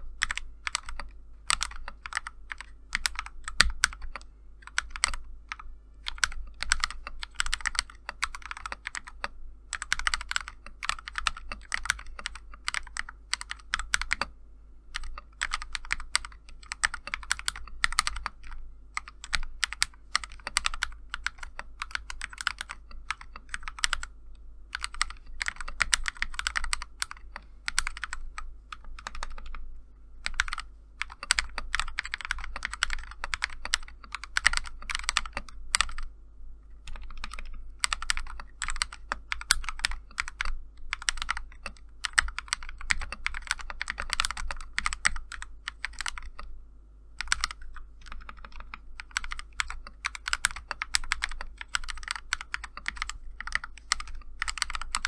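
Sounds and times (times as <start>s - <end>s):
mechanical keyboard typing: 0.0s - 14.3s, 14.9s - 29.6s, 30.2s - 36.1s, 36.8s - 46.5s, 47.2s - 55.0s.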